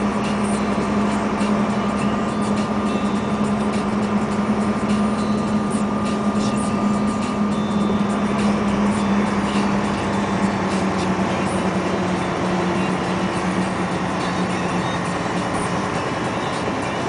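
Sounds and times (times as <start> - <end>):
truck diesel engine pulling hard: 0.0 - 17.0.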